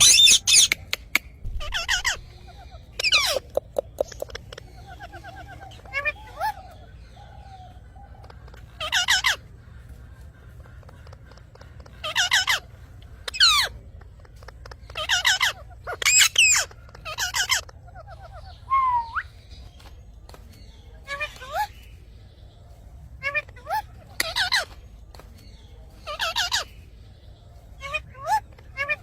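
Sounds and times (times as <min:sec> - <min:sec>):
birds squawking shrilly: 0:00.0 - 0:20.0, 0:20.6 - 0:22.1, 0:23.1 - 0:27.0, 0:27.6 - 0:29.0.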